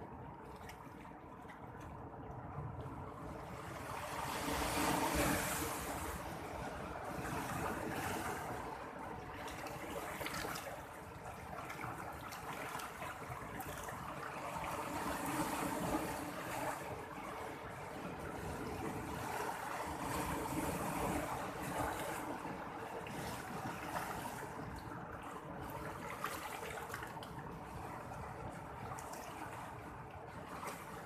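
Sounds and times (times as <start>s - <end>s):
sea waves rushing: 3.0s - 31.0s.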